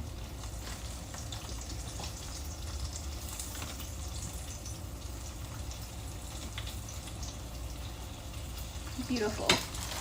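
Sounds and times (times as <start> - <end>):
food sizzling in hot oil: 0.0 - 10.0
small oil crackles: 0.0 - 10.0.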